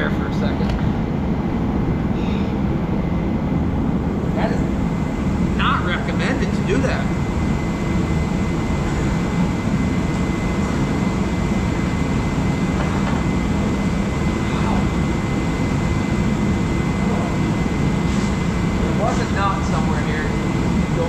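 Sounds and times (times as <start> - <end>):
forced-air heater roaring: 0.0 - 21.0.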